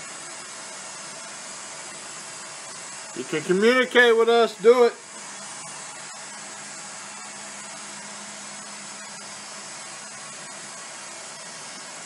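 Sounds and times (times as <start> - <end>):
white noise static hiss: 0.0 - 12.0.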